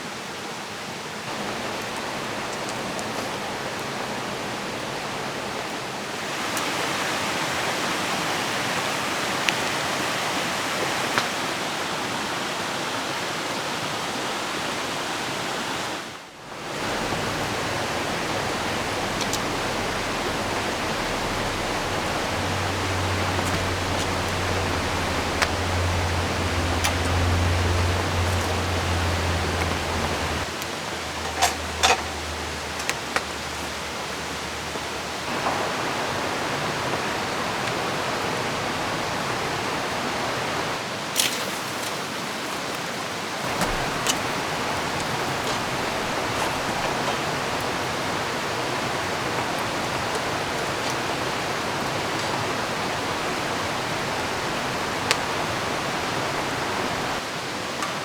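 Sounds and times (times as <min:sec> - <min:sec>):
rain: 0:00.0 - 0:58.0
river water rushing: 0:00.0 - 0:58.0.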